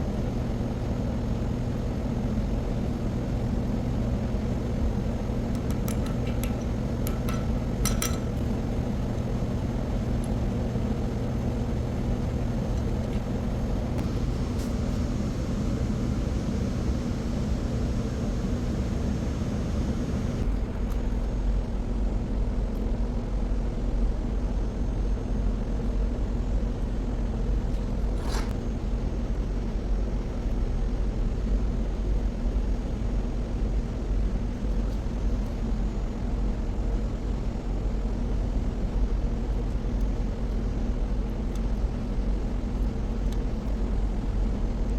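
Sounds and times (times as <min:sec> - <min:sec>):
machinery hum and rumble: 0:00.0 - 0:44.9.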